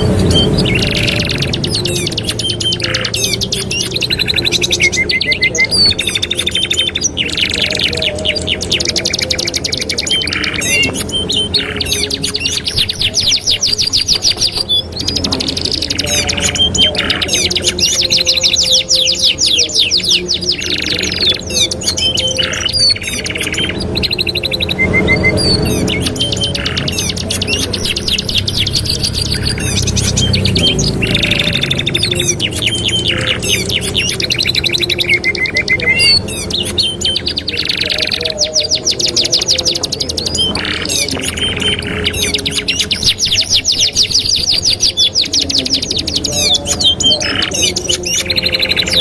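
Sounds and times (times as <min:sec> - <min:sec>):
canaries singing trills: 0:00.0 - 0:49.0.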